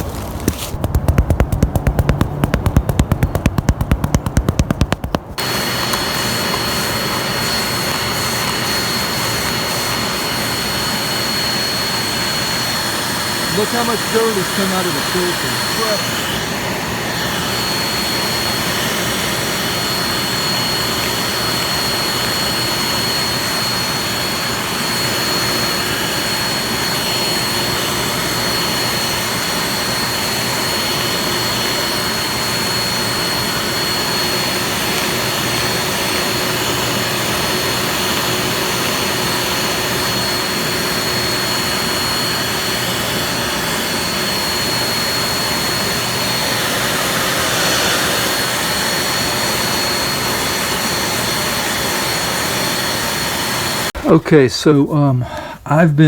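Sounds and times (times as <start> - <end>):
vacuum cleaner motor running: 0.0 - 54.2.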